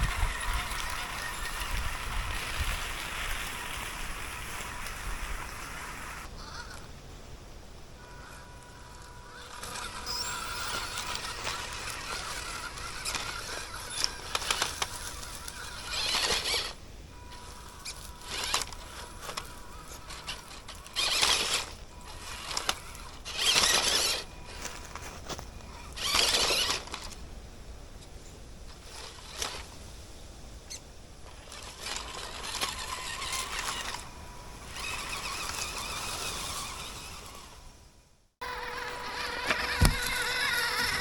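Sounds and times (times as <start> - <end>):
toy car motor whine: 0.0 - 6.8, 8.0 - 27.2, 28.7 - 29.7, 30.7 - 37.7, 38.4 - 41.0
tyres scrabbling on gravel: 0.0 - 6.9, 8.0 - 27.3, 28.7 - 30.1, 31.2 - 37.6, 38.4 - 41.0
tyres on dirt: 0.0 - 7.1, 7.8 - 37.8, 38.4 - 41.0.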